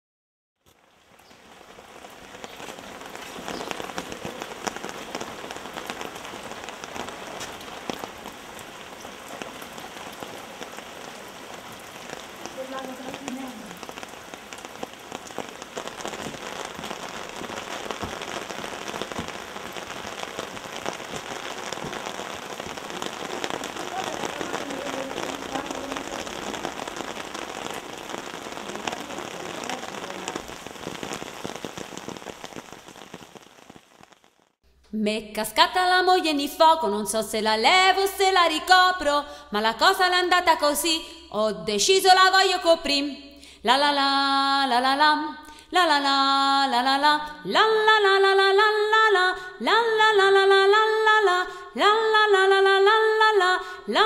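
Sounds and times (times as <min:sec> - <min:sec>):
steady rain falling: 0:00.6 - 0:34.7, 0:35.8 - 0:54.0.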